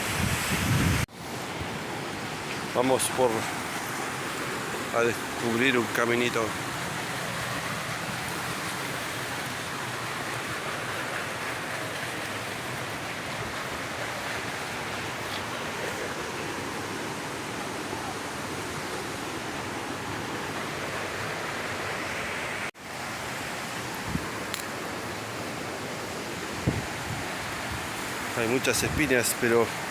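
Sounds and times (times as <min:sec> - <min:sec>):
rushing water: 0:00.0 - 0:29.9.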